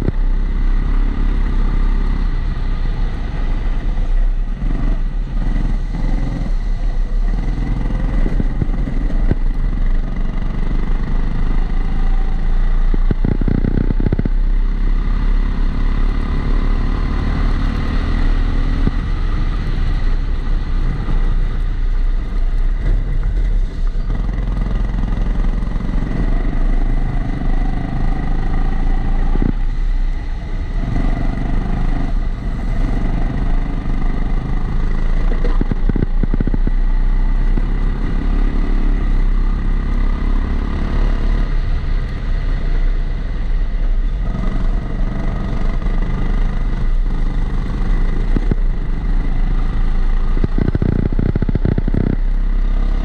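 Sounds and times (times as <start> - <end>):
muffled kart engine: 0.0 - 53.0.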